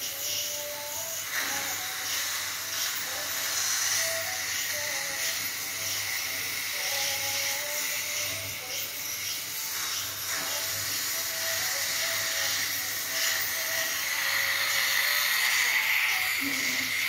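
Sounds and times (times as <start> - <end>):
dental suction hissing: 0.0 - 17.0.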